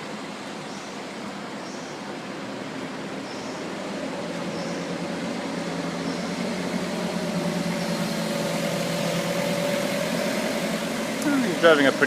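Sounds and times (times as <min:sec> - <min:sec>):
car engine hum: 0:00.0 - 0:12.0
street traffic: 0:00.0 - 0:12.0.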